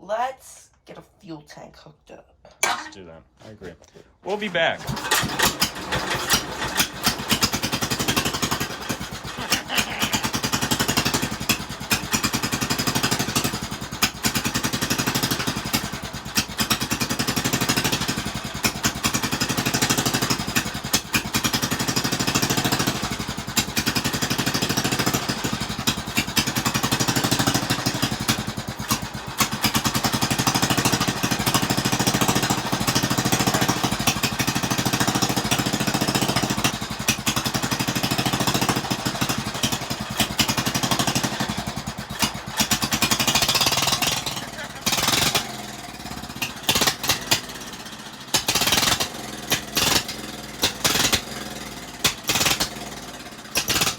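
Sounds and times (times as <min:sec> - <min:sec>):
small tractor engine running: 0:04.2 - 0:53.9.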